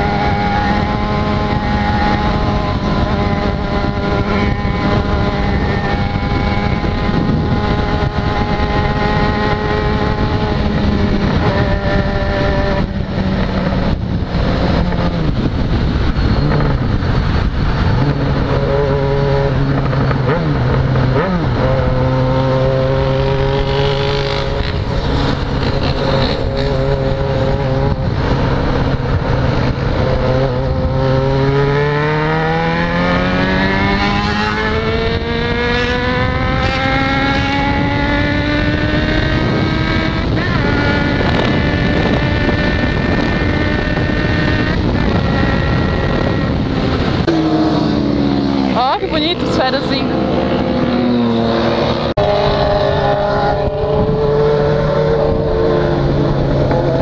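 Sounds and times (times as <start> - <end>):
motorcycle engine cruising: 0.0 - 57.0
road and wind noise: 0.0 - 57.0.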